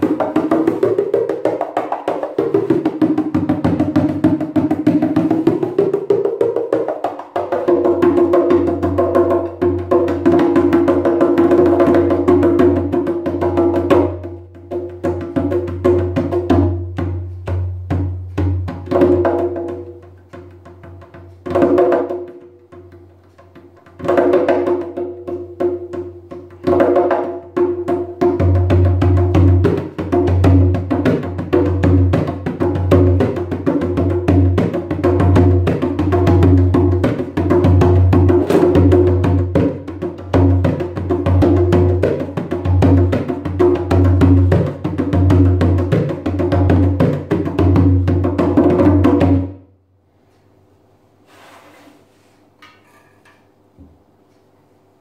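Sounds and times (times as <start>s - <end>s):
darbuka drum played with fingers: 0.0s - 49.7s.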